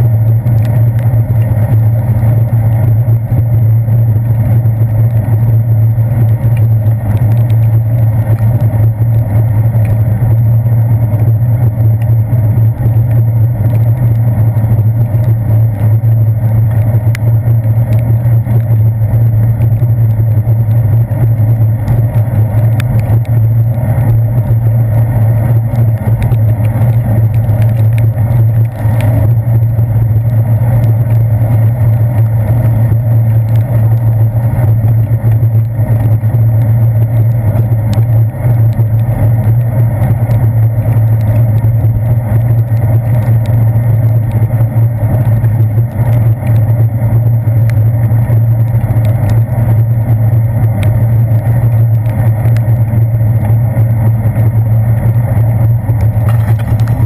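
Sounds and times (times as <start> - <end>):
wind and road rumble: 0.0 - 57.0
faint ticks: 0.3 - 2.8, 6.2 - 10.4, 11.2 - 12.2, 12.8 - 49.8, 50.6 - 52.8.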